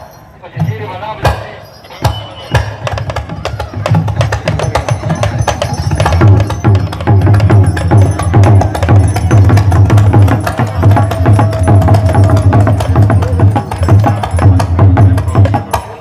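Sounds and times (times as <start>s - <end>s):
gamelan percussion with drums: 0.0s - 16.0s.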